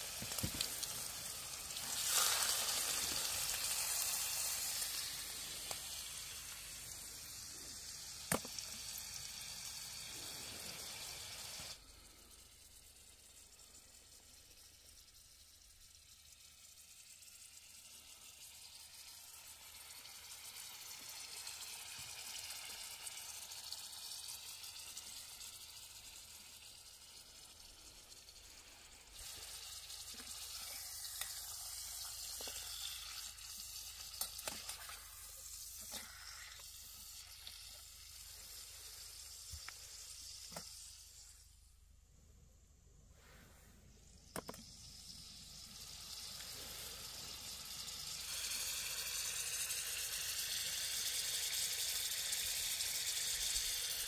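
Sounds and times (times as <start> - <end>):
steaks sizzling in a pan: 0.0 - 11.7, 16.9 - 41.3, 44.8 - 54.0.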